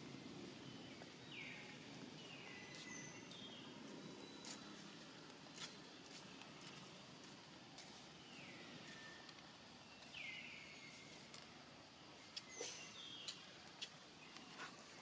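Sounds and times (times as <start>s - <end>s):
faint forest ambience: 0.0s - 15.0s.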